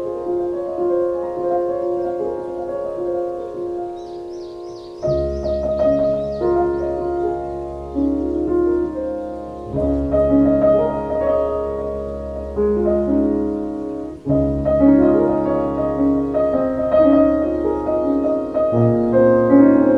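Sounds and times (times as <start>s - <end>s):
keyboard chords: 0.0s - 19.9s.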